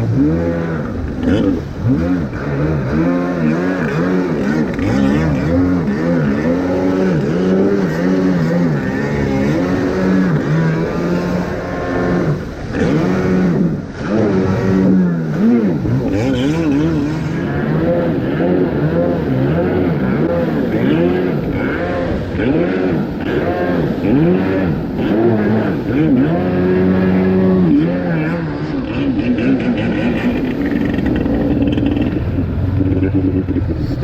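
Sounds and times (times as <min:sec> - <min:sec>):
jet ski engine revving: 0:00.0 - 0:34.0.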